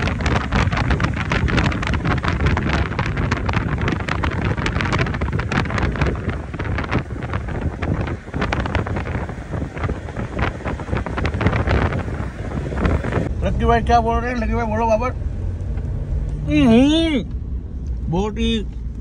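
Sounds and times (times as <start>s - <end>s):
wind buffeting microphone: 0.0s - 16.7s
car road and tyre noise: 0.0s - 19.0s.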